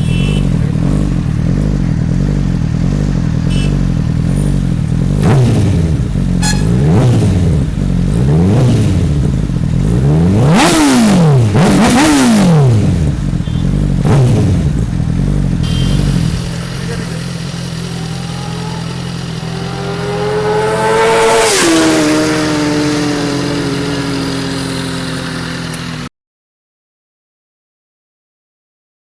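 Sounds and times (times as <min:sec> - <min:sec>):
motorcycle engine idling and revving: 0:00.0 - 0:26.1.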